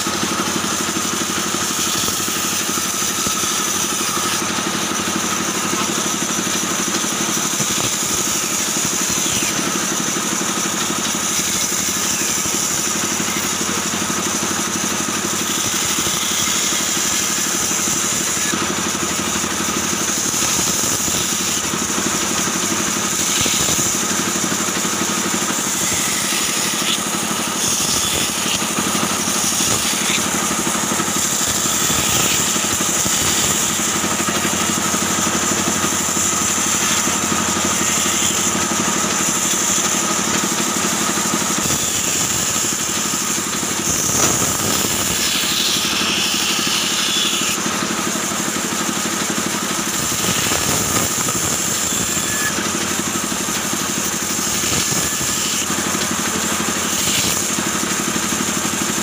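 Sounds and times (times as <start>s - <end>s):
band saw running: 0.0s - 59.0s.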